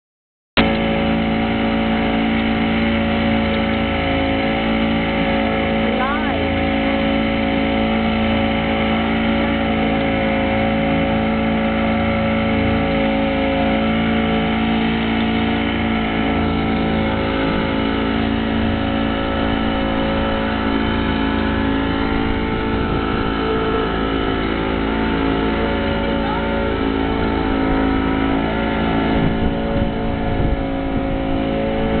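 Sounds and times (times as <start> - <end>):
boat engine droning: 0.6 - 32.0.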